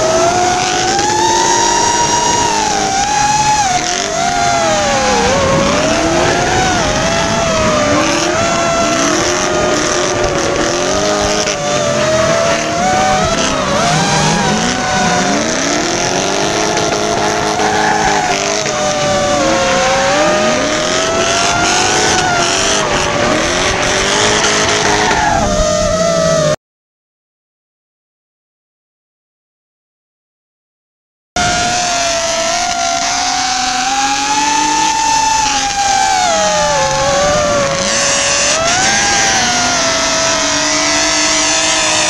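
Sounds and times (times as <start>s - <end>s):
car engines revving: 0.0s - 26.6s, 31.4s - 42.0s
drone motors whining: 0.0s - 26.6s, 31.4s - 42.0s
tyres squealing and skidding: 0.0s - 26.6s, 31.4s - 42.0s.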